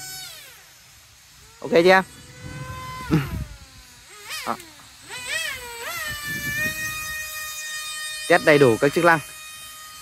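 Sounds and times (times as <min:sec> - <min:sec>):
model jet electric motor whining: 0:00.0 - 0:10.0.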